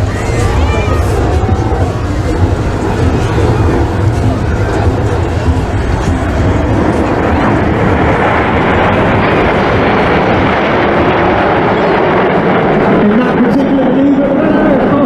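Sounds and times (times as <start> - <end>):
jets flying past: 0.0 - 15.0.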